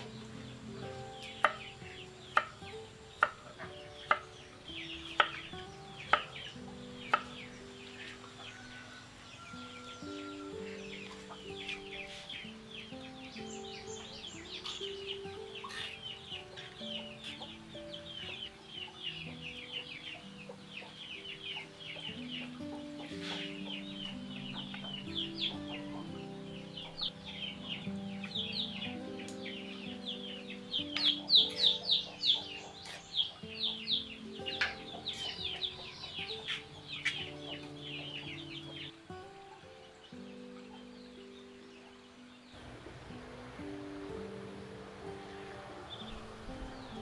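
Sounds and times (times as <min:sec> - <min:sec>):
chicks peeping: 0:00.0 - 0:43.1
birds chirping: 0:00.0 - 0:47.0
soft instrumental music: 0:00.0 - 0:47.0.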